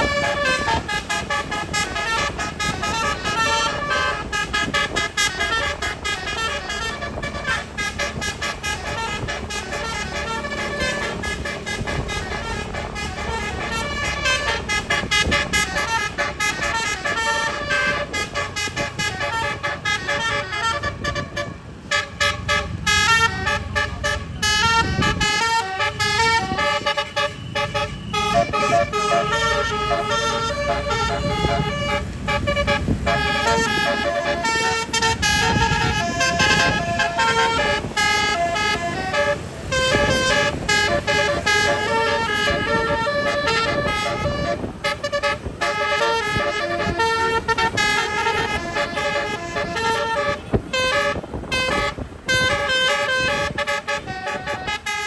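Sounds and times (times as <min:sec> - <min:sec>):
bus engine rumble: 0:00.0 - 0:55.0
musical bus horns: 0:00.0 - 0:55.0.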